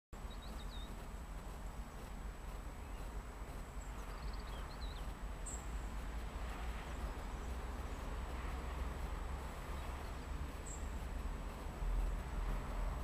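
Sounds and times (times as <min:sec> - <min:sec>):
small birds chirping: 0:00.2 - 0:13.0
steady low rumble: 0:00.2 - 0:13.0.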